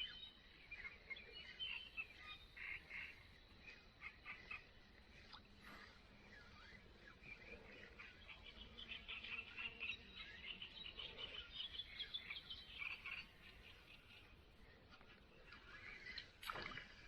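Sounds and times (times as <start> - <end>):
frogs chirping: 0.0 - 17.0.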